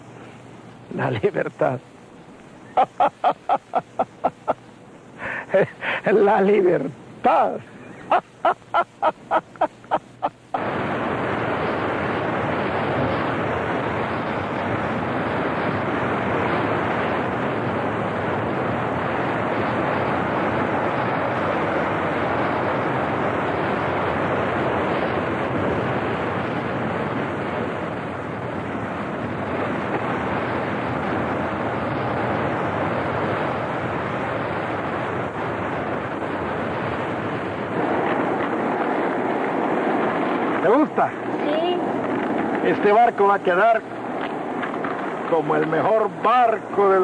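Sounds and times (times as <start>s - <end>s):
sea surf washing: 0.0s - 47.0s.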